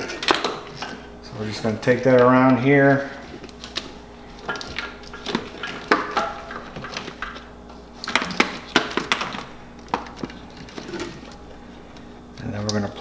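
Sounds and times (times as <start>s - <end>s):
wiring and plastic rustling: 0.0s - 13.0s.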